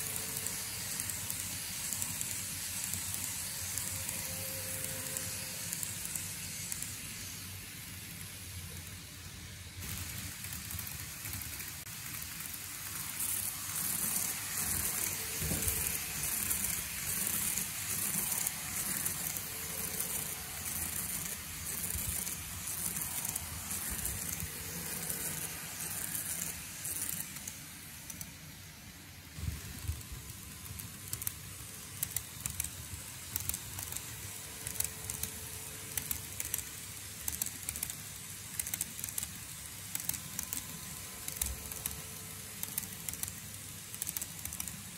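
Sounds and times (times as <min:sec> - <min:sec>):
model train wheels rattling on rails: 0:00.0 - 0:44.9.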